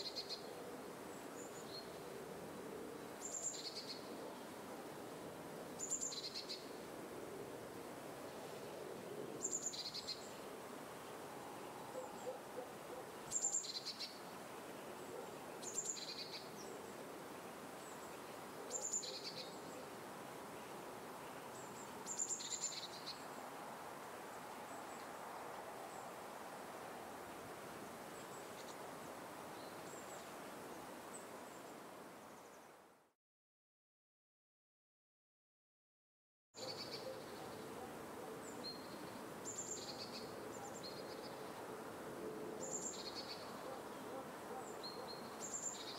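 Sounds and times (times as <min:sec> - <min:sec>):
background hiss: 0:00.0 - 0:33.1, 0:36.6 - 0:45.9.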